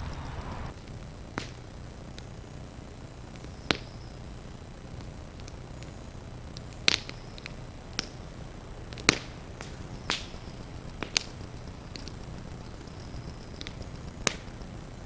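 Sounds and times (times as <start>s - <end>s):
burning thatch crackling: 0.0s - 15.0s
low background noise: 0.0s - 15.0s.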